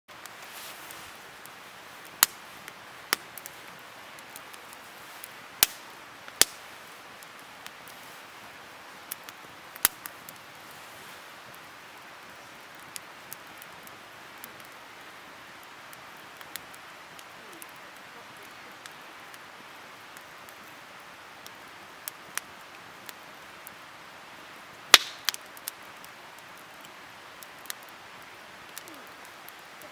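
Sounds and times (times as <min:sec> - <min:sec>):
campfire crackling and popping: 0:00.1 - 0:29.9
soft steady fire hiss: 0:00.1 - 0:29.9.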